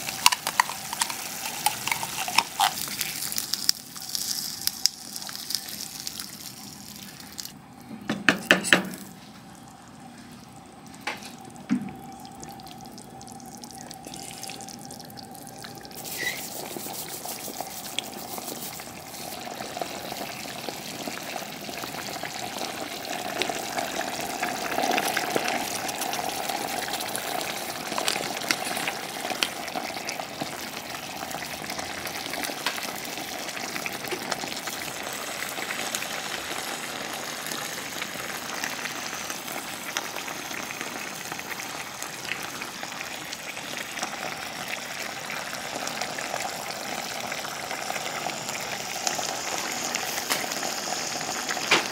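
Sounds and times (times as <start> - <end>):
cooking hiss with crackles: 0.0 - 7.7, 8.5 - 51.9.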